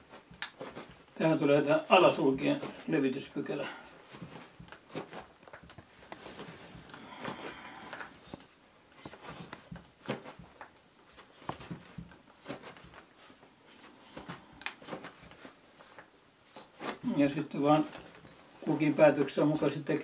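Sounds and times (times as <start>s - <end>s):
knife snicking and scraping wood: 0.0s - 1.1s, 3.7s - 19.0s.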